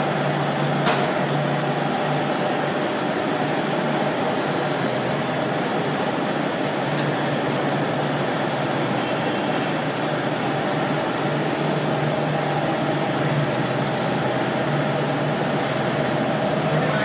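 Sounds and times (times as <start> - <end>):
industrial machine drone: 0.0 - 17.0.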